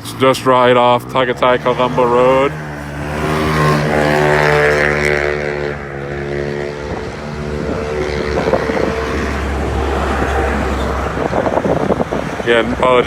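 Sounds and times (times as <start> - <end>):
vehicle engine passing: 0.0 - 13.0
wind buffeting microphone: 0.0 - 13.0.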